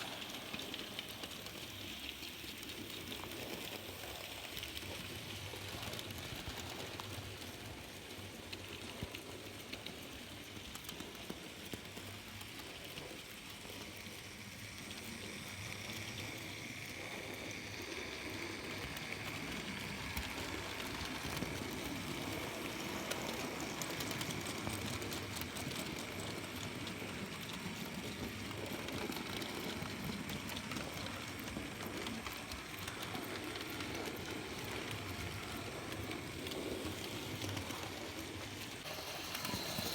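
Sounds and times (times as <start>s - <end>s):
model train motor whirring: 0.0s - 39.9s.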